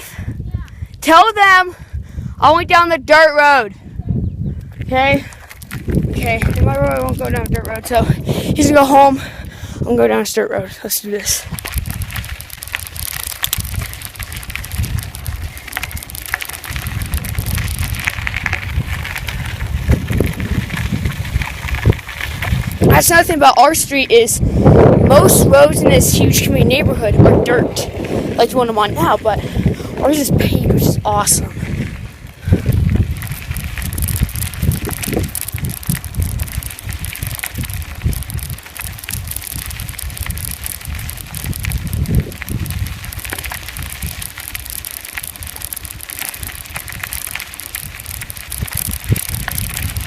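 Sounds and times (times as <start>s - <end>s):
wind rumble on microphone: 0.0s - 50.0s
bike clicks and rattles: 4.5s - 9.7s, 11.3s - 50.0s
tyres on dirt: 4.7s - 9.2s, 9.8s - 50.0s.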